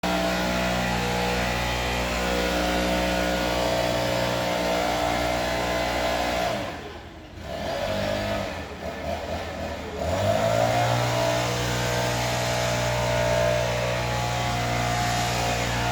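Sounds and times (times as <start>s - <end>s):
leaf blower running: 0.0s - 15.9s.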